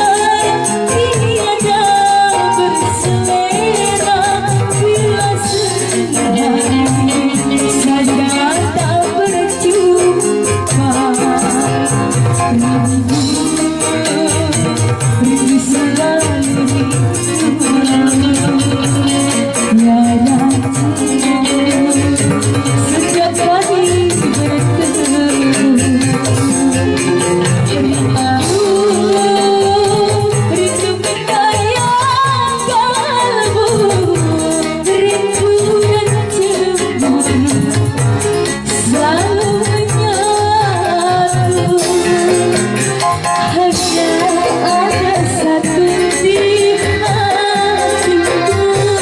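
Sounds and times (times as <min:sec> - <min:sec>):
hand drums: 0:00.0 - 0:49.0
live band: 0:00.0 - 0:49.0
woman singing: 0:00.0 - 0:49.0.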